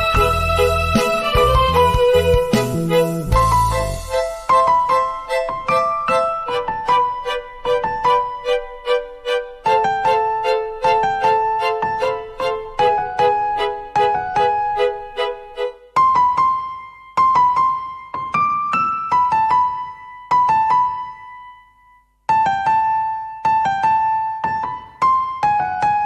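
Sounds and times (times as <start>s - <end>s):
slow piano melody: 0.0s - 26.0s.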